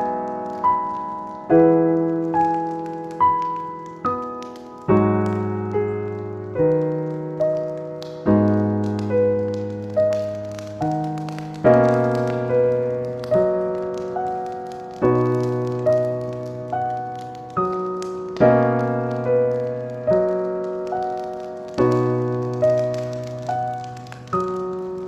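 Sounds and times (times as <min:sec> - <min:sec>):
slow gentle piano music: 0:00.0 - 0:25.0.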